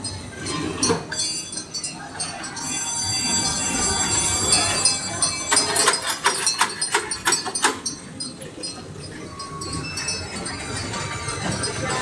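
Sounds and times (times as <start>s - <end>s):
ride train wheels rumbling on rails: 1.1s - 12.0s.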